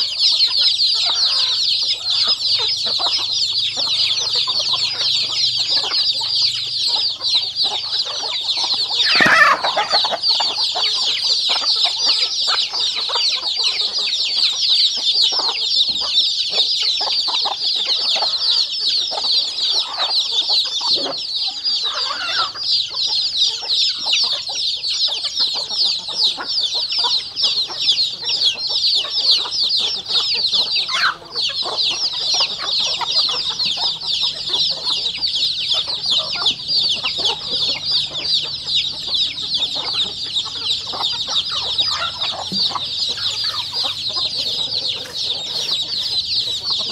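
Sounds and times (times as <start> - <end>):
chicks peeping: 0.0 - 46.9
hens clucking: 0.0 - 46.9.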